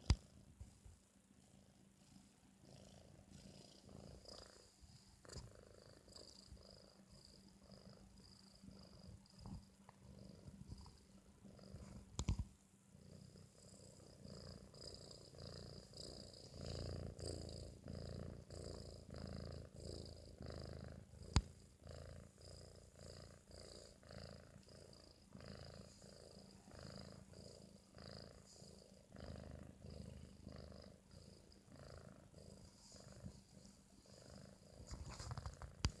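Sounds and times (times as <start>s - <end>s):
kitten snoring: 1.7s - 12.4s, 13.0s - 36.0s.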